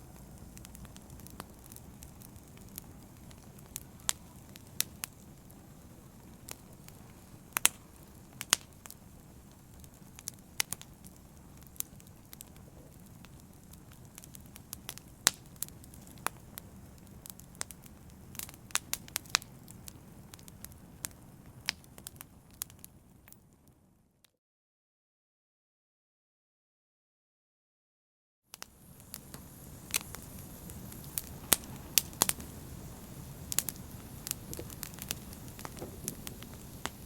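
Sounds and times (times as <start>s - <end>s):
open fire crackling: 0.0s - 23.9s, 28.5s - 37.0s.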